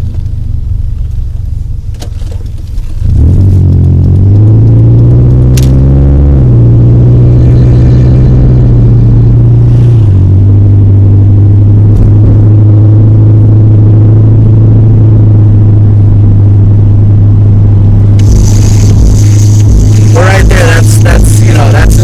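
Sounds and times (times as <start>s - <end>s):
car engine droning: 0.0s - 22.0s
road rumble inside car: 0.0s - 22.0s.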